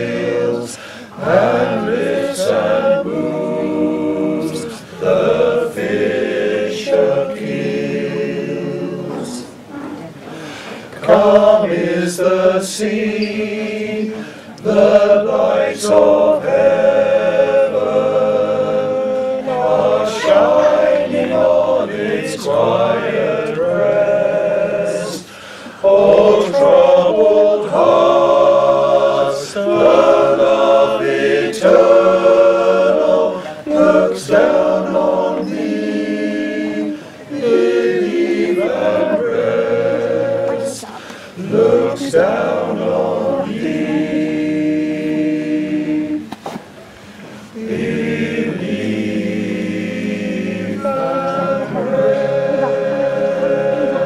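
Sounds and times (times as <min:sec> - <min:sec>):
male choir singing in harmony: 0:00.0 - 0:09.7, 0:10.4 - 0:46.4, 0:47.2 - 0:54.0.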